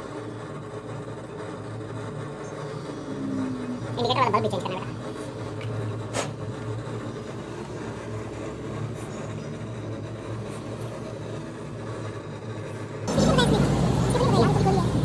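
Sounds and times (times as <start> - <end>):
vehicle engine humming: 1.0 - 15.0.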